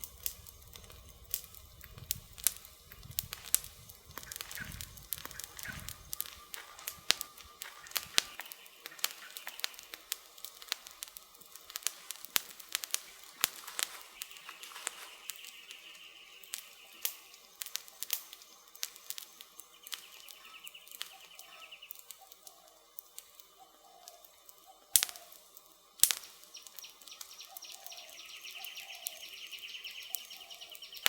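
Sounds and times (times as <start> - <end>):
low hiss: 0.0 - 31.0
wood campfire crackling: 0.0 - 31.0.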